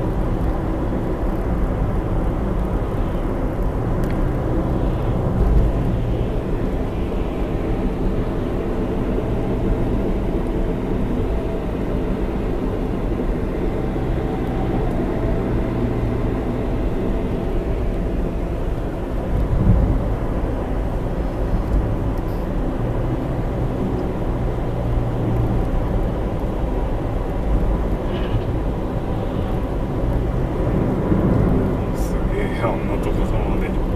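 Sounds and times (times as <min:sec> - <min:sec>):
car engine and road rumble: 0:00.0 - 0:33.9.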